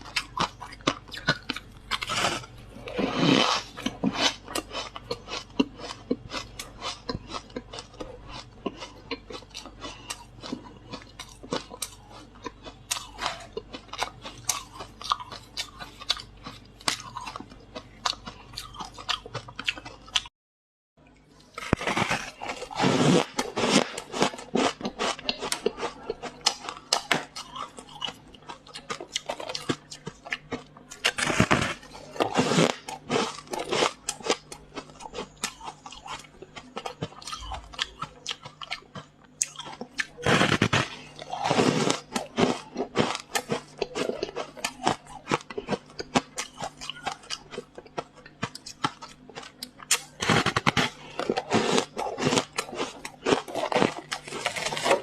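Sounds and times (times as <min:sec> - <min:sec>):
person crunching ice: 0:00.0 - 0:16.2, 0:21.6 - 0:36.2, 0:39.4 - 0:55.0.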